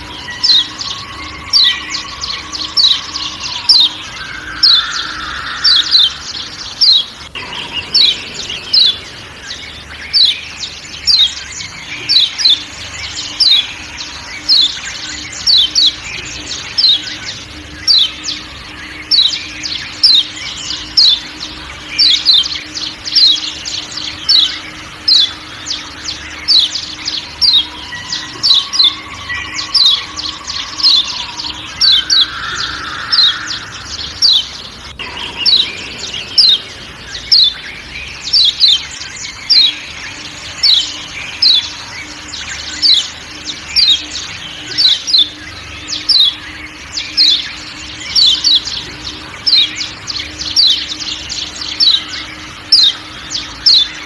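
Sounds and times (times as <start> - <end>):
faint forest background: 0.0 - 54.0
white-eye sharp chirping calls: 0.0 - 54.0.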